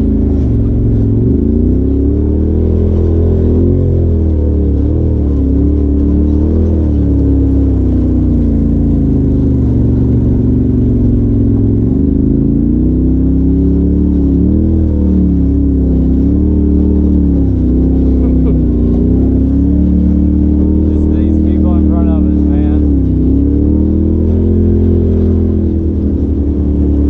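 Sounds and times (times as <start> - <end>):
turbocharged engine revving: 0.0 - 27.0.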